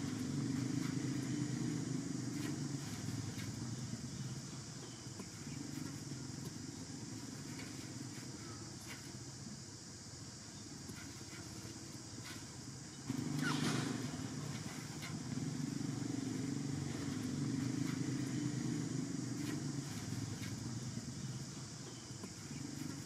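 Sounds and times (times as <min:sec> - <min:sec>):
vehicle engine running: 0:00.0 - 0:09.6, 0:11.2 - 0:23.0.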